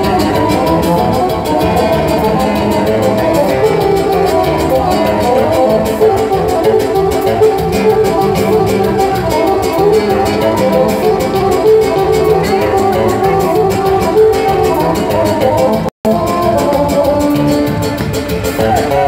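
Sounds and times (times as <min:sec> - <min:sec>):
plucked guitar music with beat: 0:00.0 - 0:19.0.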